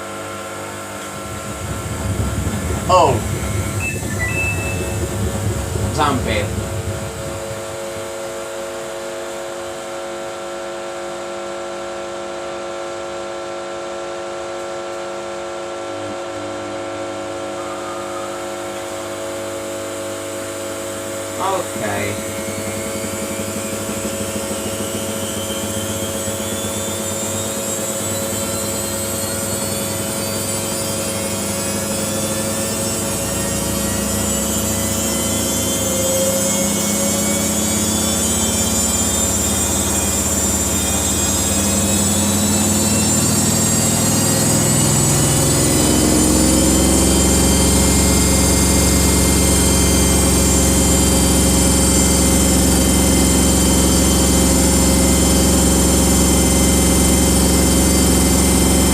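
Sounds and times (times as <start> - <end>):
washing machine motor whine: 0.0 - 58.9.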